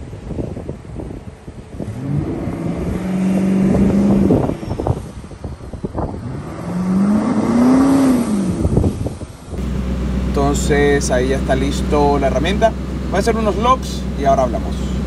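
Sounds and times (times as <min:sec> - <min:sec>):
car engine revving: 0:01.8 - 0:05.2, 0:06.0 - 0:15.0.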